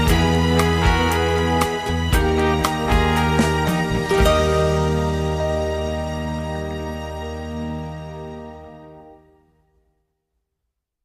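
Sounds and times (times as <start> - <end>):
slow music of held chords: 0.0 - 10.0.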